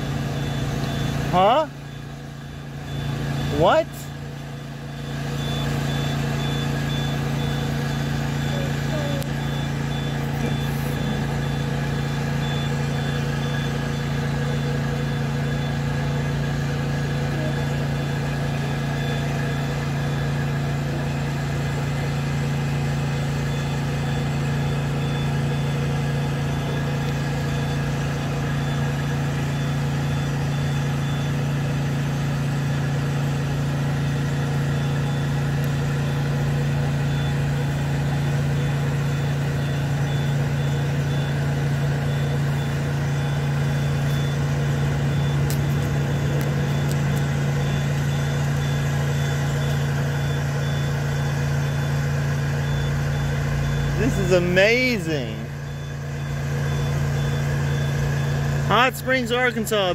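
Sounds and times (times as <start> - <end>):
low motor drone: 0.0 - 32.1, 32.7 - 59.9
high warning beeps: 0.0 - 59.9.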